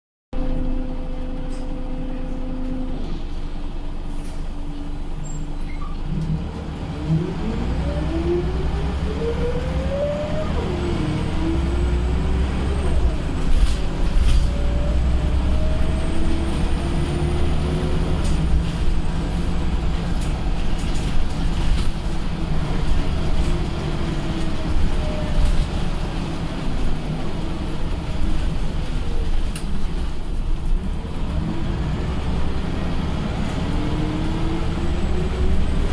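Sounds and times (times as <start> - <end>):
bus engine accelerating: 0.4 - 35.9.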